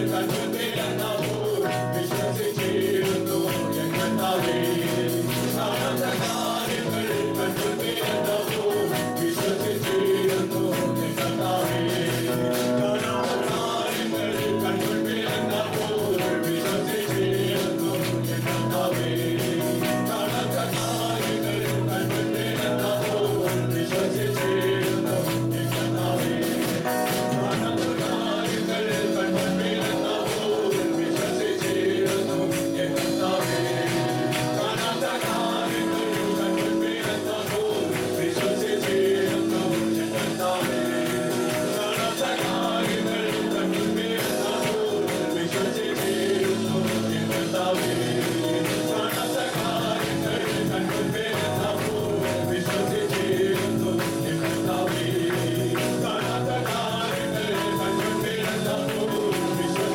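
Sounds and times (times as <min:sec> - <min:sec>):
band playing worship music: 0:00.0 - 0:59.9
percussive beat: 0:00.0 - 0:59.9
singing: 0:00.0 - 0:59.9.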